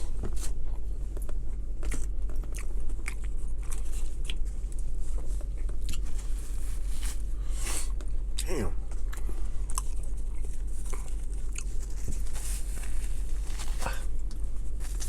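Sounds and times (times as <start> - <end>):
person chewing a sandwich: 0.0 - 15.0
steady low hum: 0.0 - 15.0.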